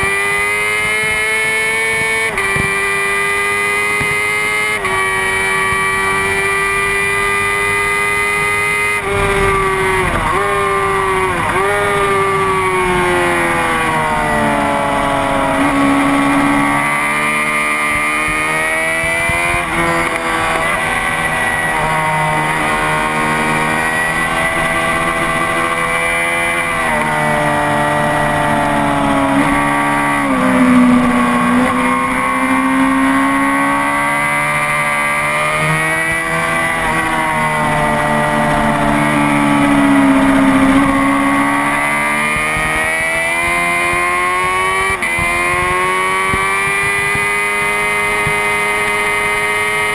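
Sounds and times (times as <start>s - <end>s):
motorcycle engine at speed: 0.0s - 49.9s.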